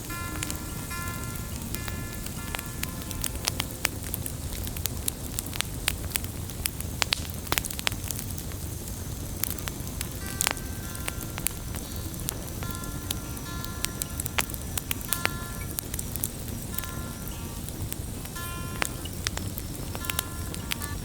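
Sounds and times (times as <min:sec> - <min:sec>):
fire low roar: 0:00.0 - 0:21.0
wood fire crackling and popping: 0:00.0 - 0:21.0.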